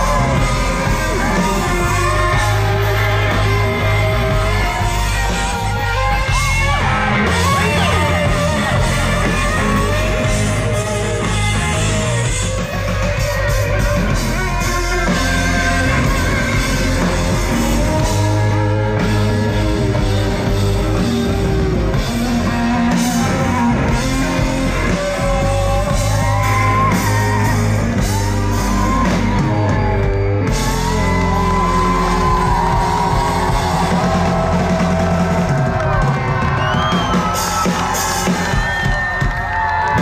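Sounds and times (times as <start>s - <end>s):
electric guitar: 0.0s - 40.0s
heavy bass: 0.0s - 40.0s.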